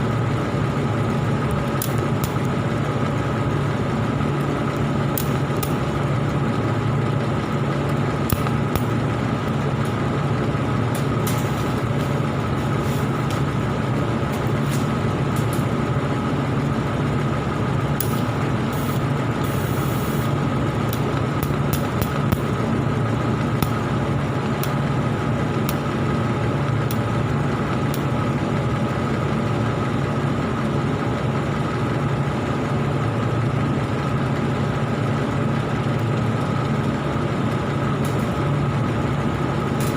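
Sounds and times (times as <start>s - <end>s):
welding arc hum and hiss: 0.0s - 39.9s.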